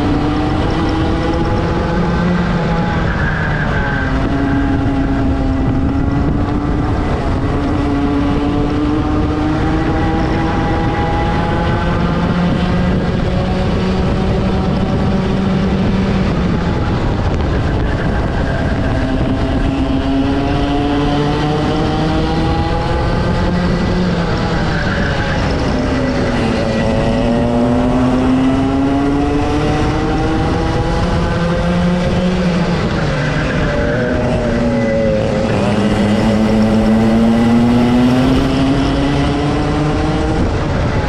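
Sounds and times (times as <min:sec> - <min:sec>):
two-stroke kart engine racing: 0:00.0 - 0:41.0.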